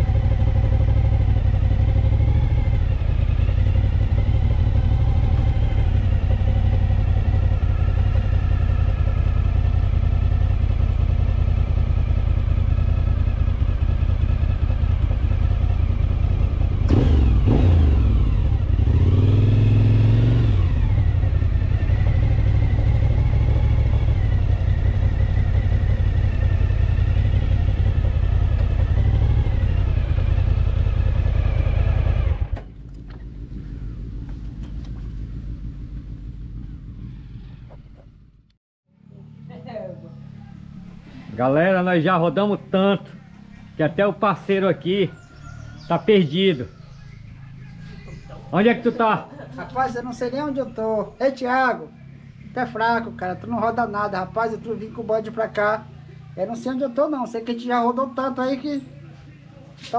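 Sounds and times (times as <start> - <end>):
motorcycle engine running: 0.0 - 59.9
motorcycles passing: 0.0 - 59.9.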